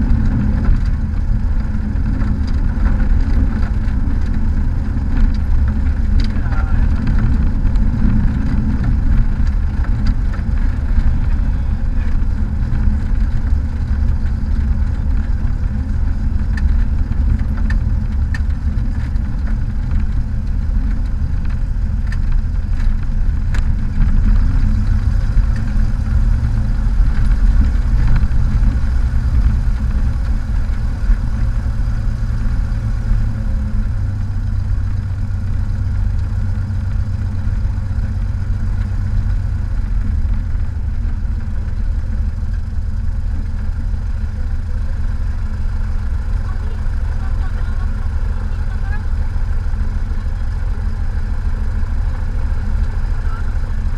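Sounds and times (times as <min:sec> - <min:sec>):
plane piston engine drone: 0:00.0 - 0:53.9.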